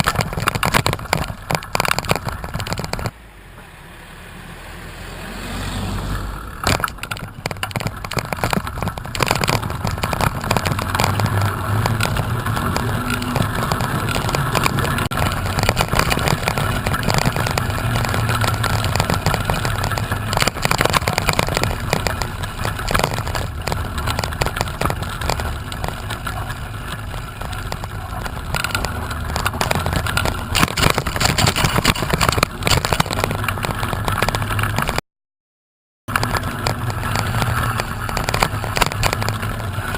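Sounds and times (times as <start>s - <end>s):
small knocks and rattles: 0.0s - 3.2s, 6.6s - 35.0s, 36.1s - 39.9s.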